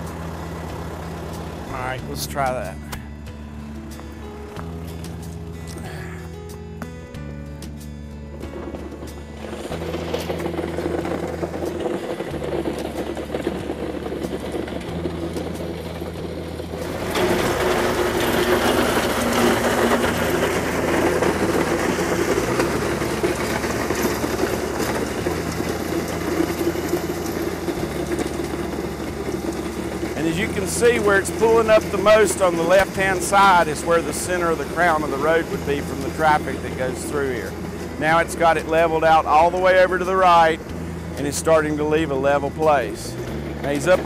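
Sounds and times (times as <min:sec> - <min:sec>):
tractor diesel engine running: 0:00.0 - 0:44.0
blades scraping loose gravel: 0:07.7 - 0:44.0.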